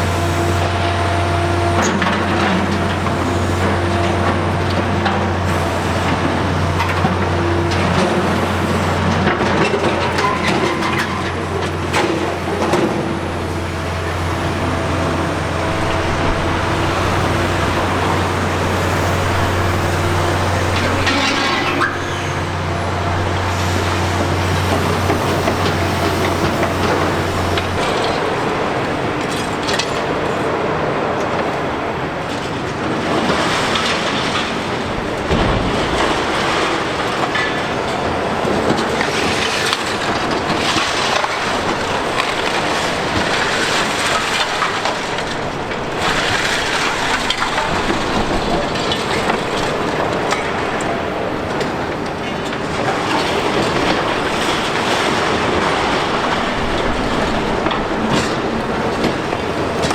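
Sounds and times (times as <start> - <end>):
excavator running: 0.0 - 59.9.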